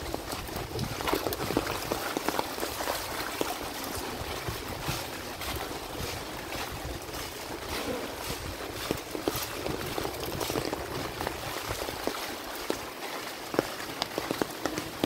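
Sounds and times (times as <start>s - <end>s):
floodwater running: 0.0s - 15.0s
rain falling: 0.0s - 15.0s.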